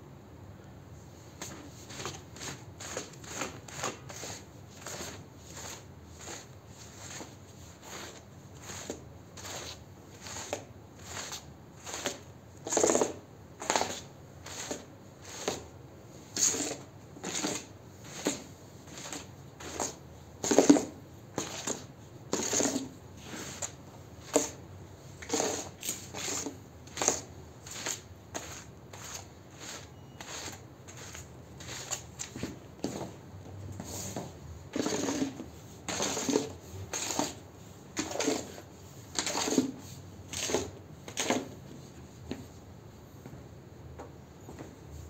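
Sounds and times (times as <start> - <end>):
squeegee scraping wet rug: 1.4 - 24.6, 25.2 - 33.1, 33.8 - 41.5.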